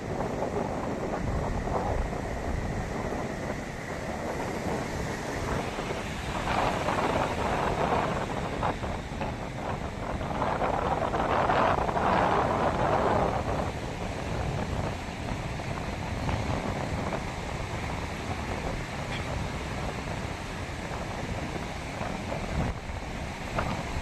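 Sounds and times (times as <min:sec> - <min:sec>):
ocean waves breaking: 0:00.0 - 0:24.0
wind buffeting microphone: 0:00.0 - 0:24.0.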